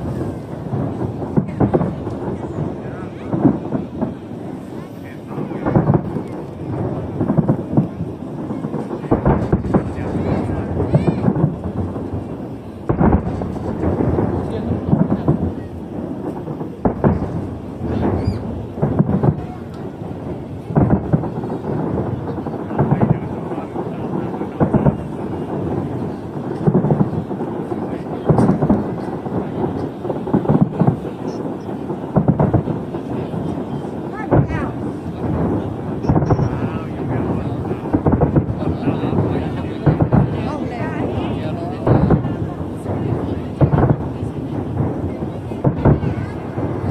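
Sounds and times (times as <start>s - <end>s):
fireworks booming: 0.0s - 46.9s
rising firework whistles: 0.0s - 46.9s.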